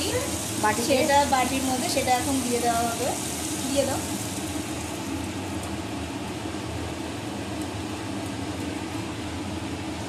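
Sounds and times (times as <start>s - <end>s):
chutney sizzling in a wok: 0.0s - 10.0s
steady low hum: 0.0s - 10.0s.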